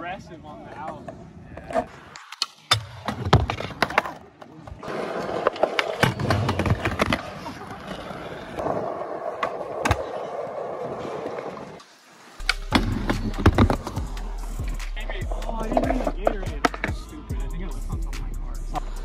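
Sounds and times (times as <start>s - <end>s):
skateboard wheels rolling on concrete: 0.0s - 17.6s
skateboard clacking: 0.7s - 14.8s, 15.5s - 17.0s.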